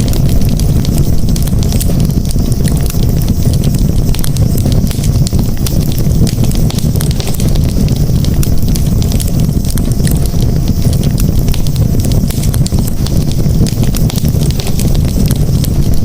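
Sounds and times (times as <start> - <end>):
campfire flames rumbling: 0.0 - 16.0
wood crackling and popping: 0.0 - 16.0.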